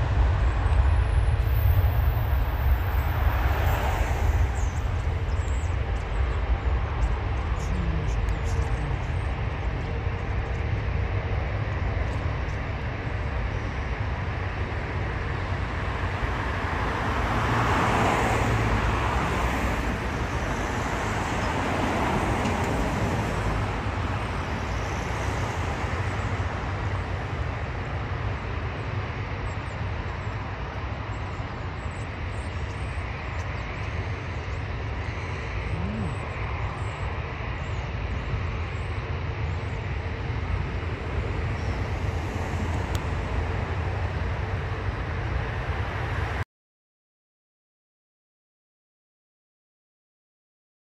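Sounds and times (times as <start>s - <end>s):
jet engines rumbling: 0.0s - 46.4s
road traffic: 0.0s - 46.4s.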